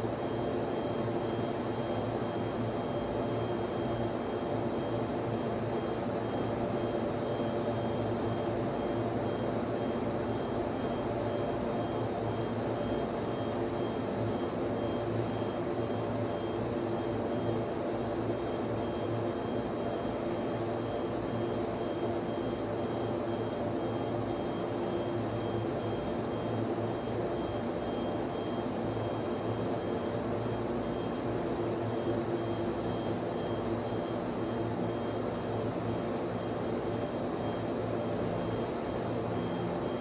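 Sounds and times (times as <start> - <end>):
cooling fans whirring: 0.0 - 40.0.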